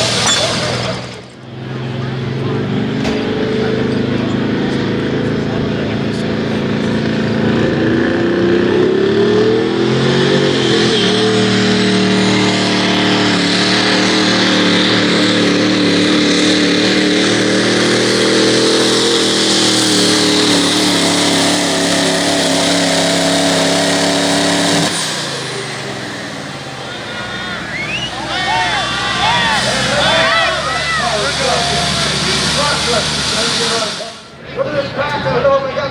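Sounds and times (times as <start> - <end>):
diesel truck engine at full throttle: 0.0 - 35.9.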